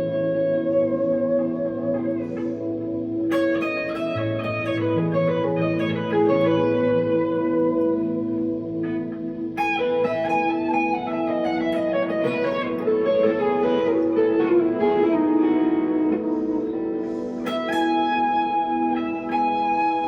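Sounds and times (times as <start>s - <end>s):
electric guitar melody: 0.0s - 20.0s.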